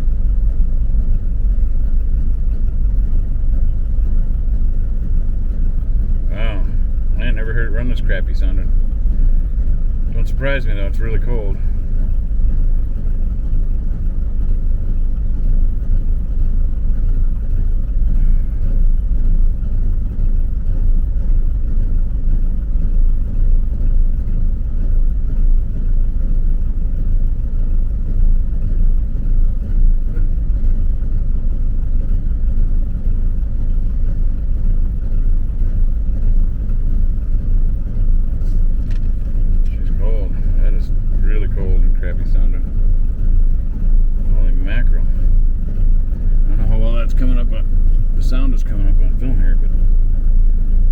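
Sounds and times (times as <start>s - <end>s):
engine idling roughly: 0.0s - 50.9s.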